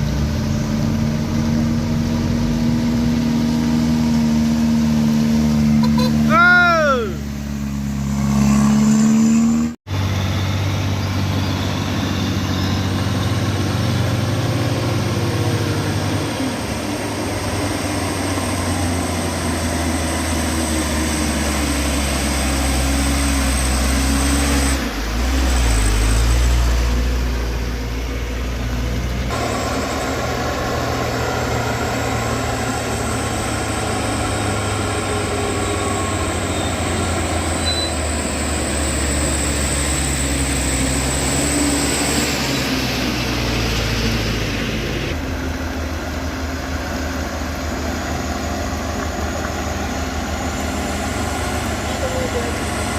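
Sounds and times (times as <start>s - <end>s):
heavy vehicle engines running: 0.0s - 52.9s.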